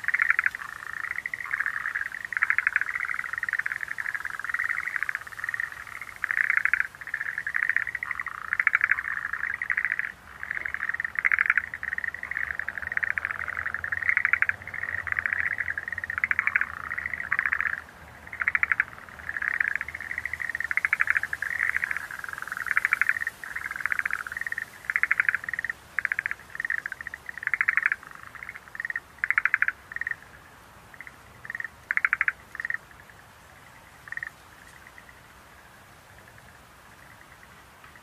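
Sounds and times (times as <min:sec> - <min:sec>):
frogs calling with trills: 0:00.0 - 0:38.0.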